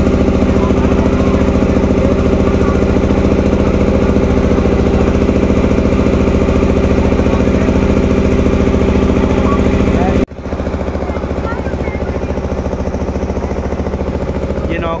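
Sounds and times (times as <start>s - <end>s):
boat engine throbbing: 0.0s - 15.0s.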